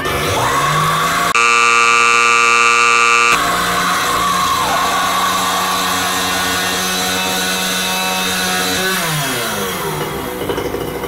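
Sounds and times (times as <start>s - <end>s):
motor buzz winding down: 0.0s - 10.5s.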